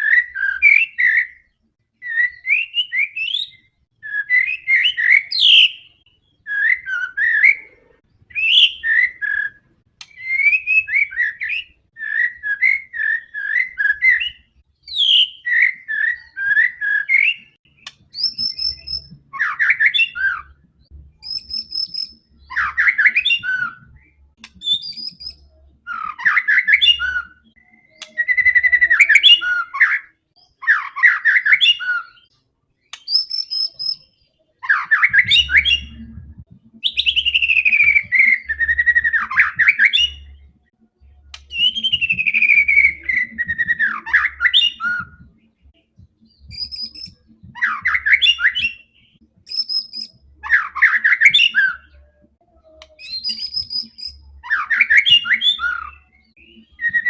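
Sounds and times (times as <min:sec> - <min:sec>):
bird singing whistled phrases: 0:00.0 - 0:20.6, 0:21.2 - 0:32.3, 0:32.9 - 0:36.2, 0:36.8 - 0:40.4, 0:41.4 - 0:45.4, 0:46.2 - 0:57.0.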